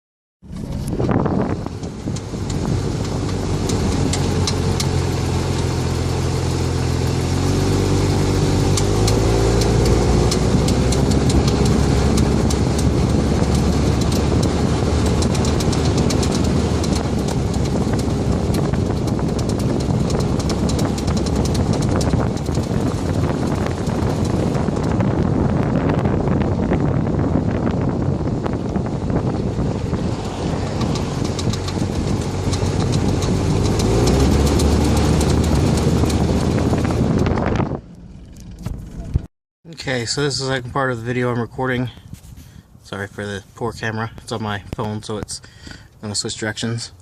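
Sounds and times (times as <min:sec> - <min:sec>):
vehicle engine running: 0:00.4 - 0:41.1.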